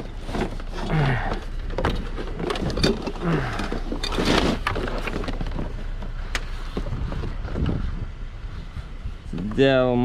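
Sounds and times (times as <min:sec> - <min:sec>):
rustling: 0:00.0 - 0:09.6.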